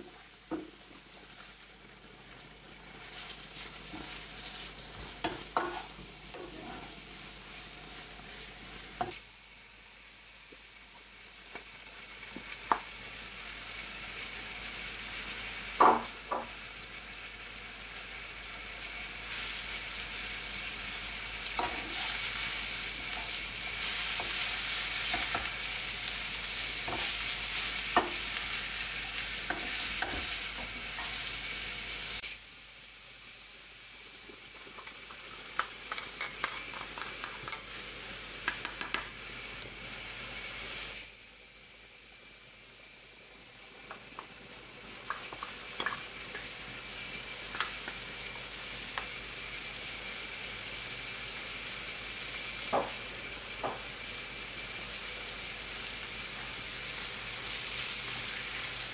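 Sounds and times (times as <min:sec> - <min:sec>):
vegetables sizzling in frying pan: 0:00.0 - 0:58.9.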